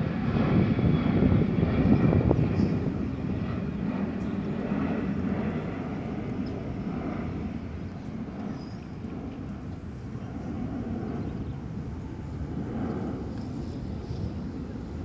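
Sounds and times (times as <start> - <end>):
jet engines rumbling overhead: 0.0 - 15.0.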